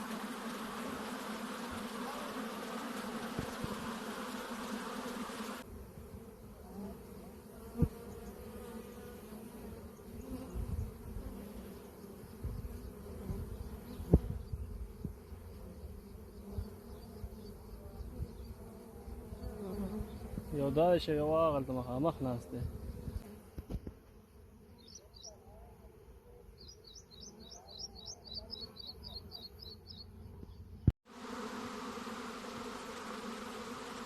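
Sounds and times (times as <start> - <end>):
honey bees buzzing: 0.0 - 25.2, 25.9 - 34.0.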